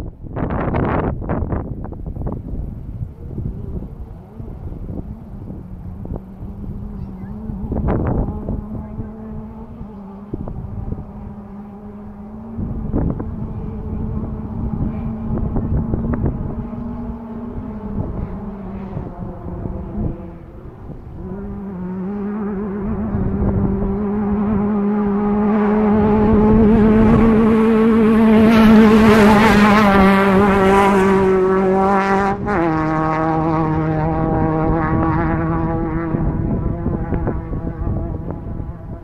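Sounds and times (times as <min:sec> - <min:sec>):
race vehicle engine passing: 0:00.0 - 0:39.0.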